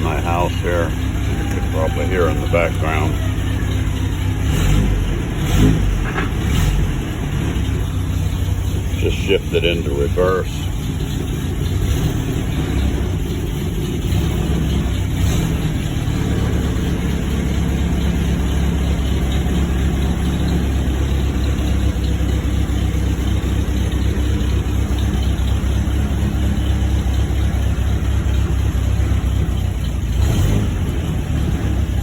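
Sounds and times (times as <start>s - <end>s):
car engine running at low revs: 0.0s - 32.0s.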